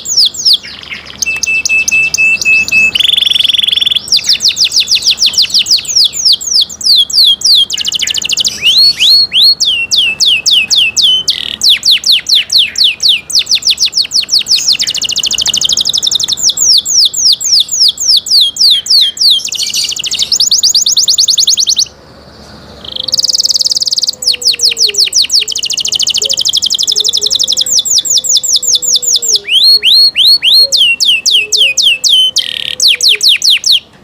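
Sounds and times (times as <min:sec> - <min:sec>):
canary singing: 0:00.0 - 0:34.0.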